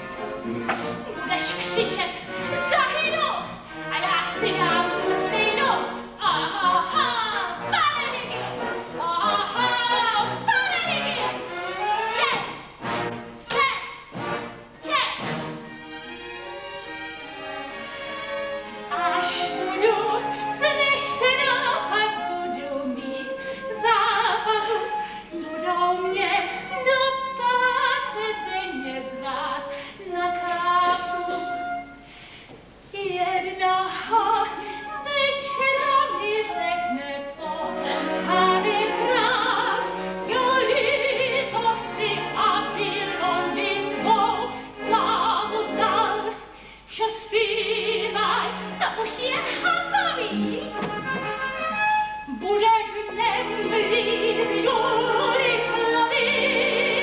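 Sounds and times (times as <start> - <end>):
orchestra accompaniment: 0.0 - 32.2, 33.9 - 46.4, 47.5 - 57.0
woman singing operatically: 1.0 - 12.7, 13.5 - 14.0, 18.8 - 31.9, 32.9 - 51.5, 52.3 - 57.0.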